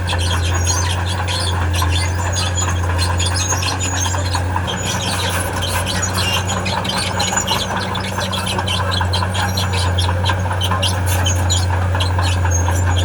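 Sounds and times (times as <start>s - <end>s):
diesel engine running: 0.0s - 13.0s
metal crawler tracks squealing: 0.0s - 13.0s.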